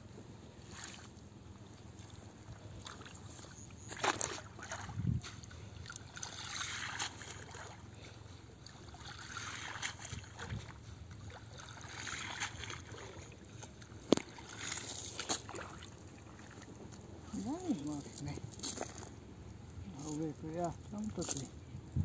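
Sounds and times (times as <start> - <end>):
water swishing and dripping: 0.6 - 19.2.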